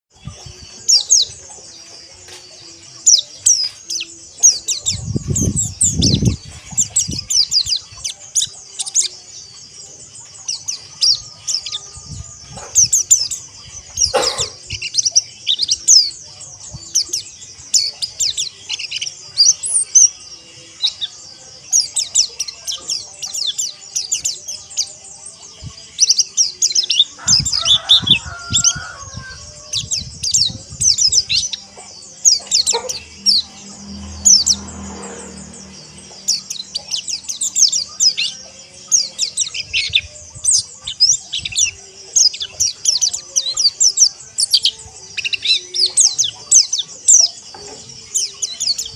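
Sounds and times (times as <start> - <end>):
flock of birds chattering: 0.1 - 48.9.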